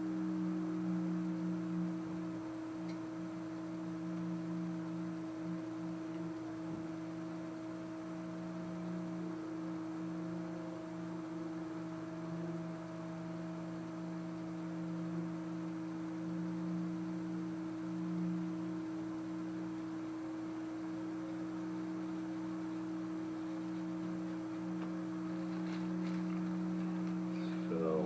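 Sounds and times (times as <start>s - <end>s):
machine humming: 0.0s - 28.0s.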